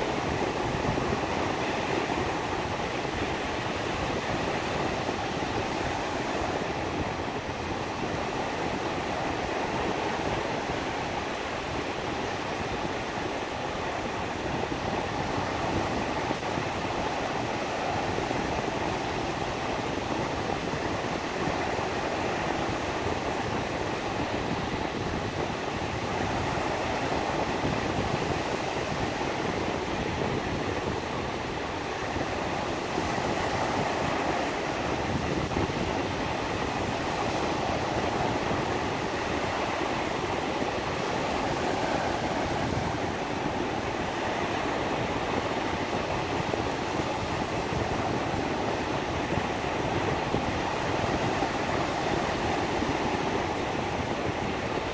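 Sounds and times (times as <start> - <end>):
surf washing up a beach: 0.0 - 54.9.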